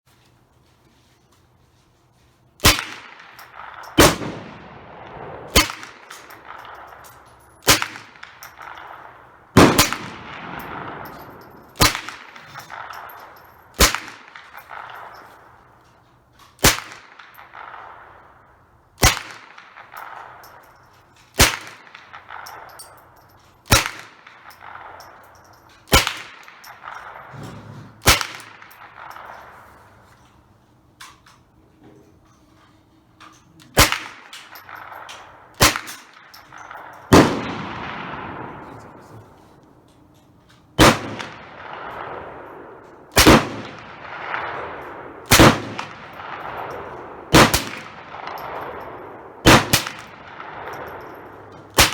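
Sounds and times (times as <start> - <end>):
rifle shots with echo: 2.6 - 15.7, 16.6 - 20.8, 21.4 - 30.1, 33.7 - 39.4, 40.8 - 51.9.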